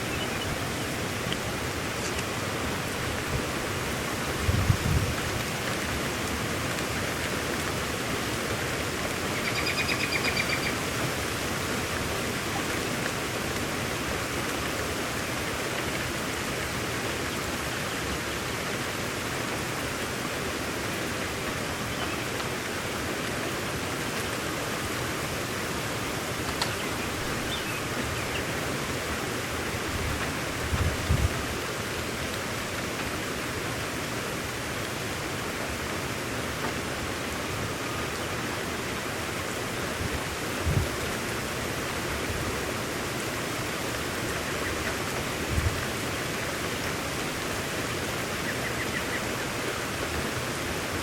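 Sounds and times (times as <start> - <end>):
heavy rain hissing: 0.0 - 51.0.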